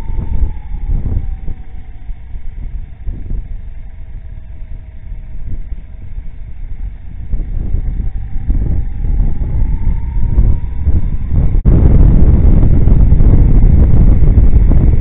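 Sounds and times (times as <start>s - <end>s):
faint falling whine: 0.0s - 15.0s
motorcycle engine and wind rumble: 0.0s - 15.0s.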